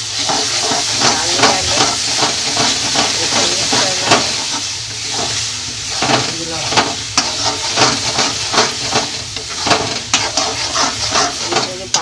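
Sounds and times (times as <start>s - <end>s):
food sizzling in hot oil: 0.0s - 12.0s
spoon scraping a pan: 0.0s - 12.0s.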